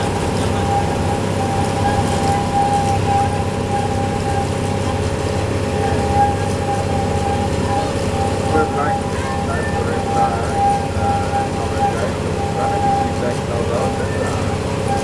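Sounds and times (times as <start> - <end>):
high-pitched whine: 0.0 - 15.0
small locomotive engine running: 0.0 - 15.0
wheels rumbling: 0.0 - 15.0.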